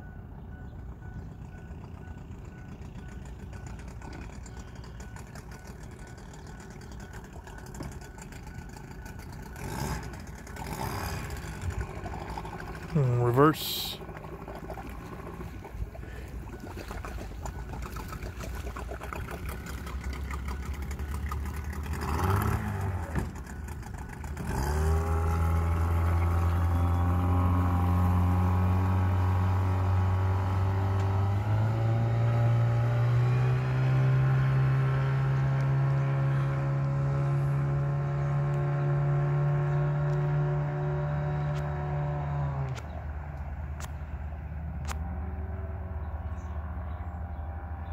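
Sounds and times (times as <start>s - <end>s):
boat engine: 0.0s - 47.9s.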